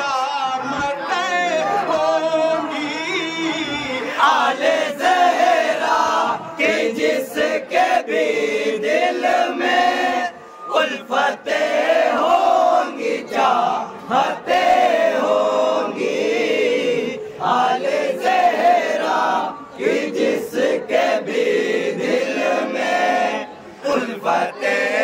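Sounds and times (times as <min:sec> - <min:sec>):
men chanting devotional poem: 0:00.0 - 0:25.0.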